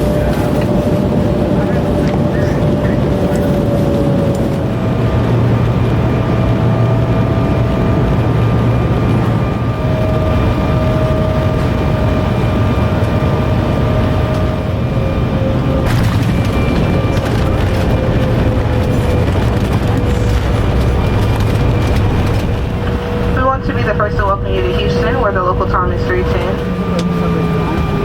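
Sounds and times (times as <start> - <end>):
jet engine rumble with whine: 0.0 - 28.0.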